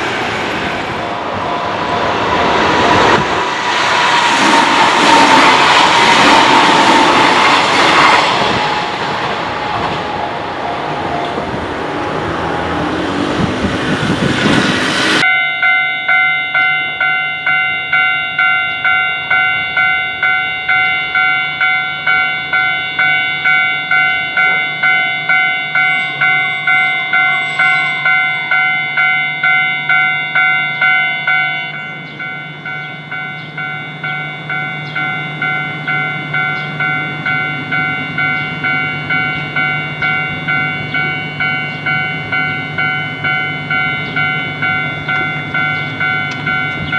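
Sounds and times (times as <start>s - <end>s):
level crossing warning bell dinging: 0.0s - 14.6s, 15.2s - 46.9s
train passing: 0.0s - 15.8s, 17.6s - 46.9s.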